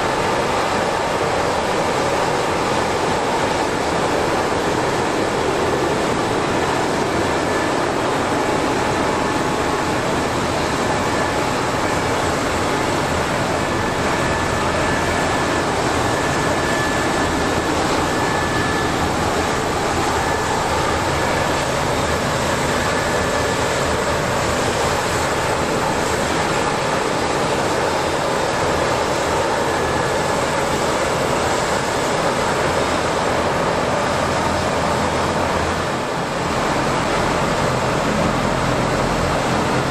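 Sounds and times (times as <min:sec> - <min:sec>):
faint high whine: 0:00.0 - 0:39.9
hovercraft engine roar: 0:00.0 - 0:39.9.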